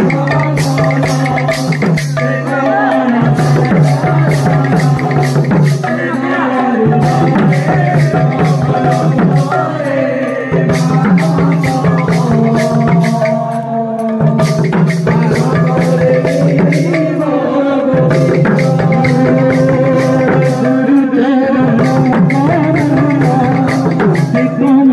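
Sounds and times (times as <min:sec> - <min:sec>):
barrel drums beating fast rhythm: 0:00.0 - 0:24.9
group singing: 0:00.0 - 0:24.9.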